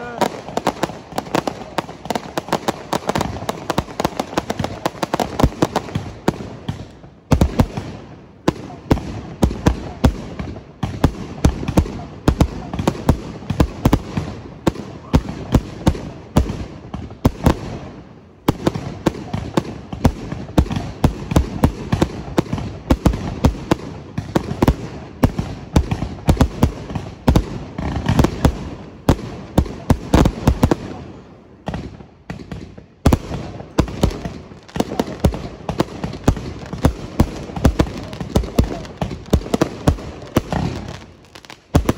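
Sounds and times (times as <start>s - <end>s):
fireworks bursts: 0.0s - 41.9s.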